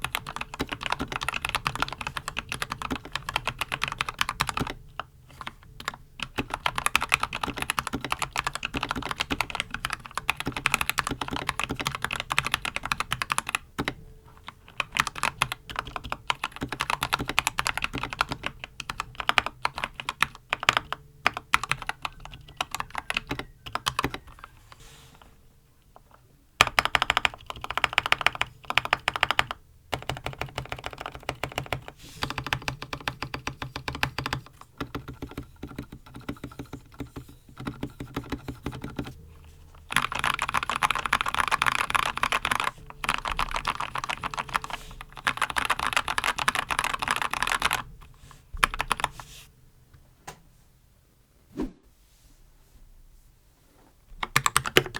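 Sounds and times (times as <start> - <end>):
mechanical keyboard typing: 0.0 - 24.6, 26.0 - 39.2, 39.8 - 47.9, 48.6 - 49.2, 54.2 - 54.9.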